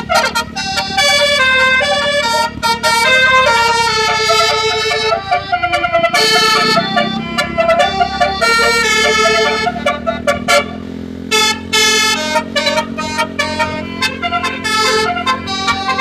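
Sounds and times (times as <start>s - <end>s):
multi-tone musical air horn: 0.0s - 16.0s.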